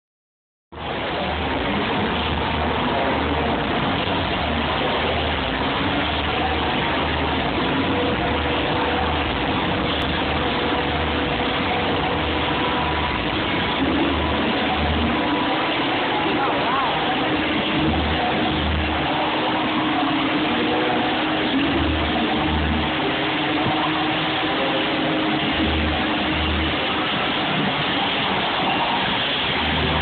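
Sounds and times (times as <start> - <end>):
motorcycle engines running: 0.8 - 30.0
pulsing low throb: 0.8 - 30.0.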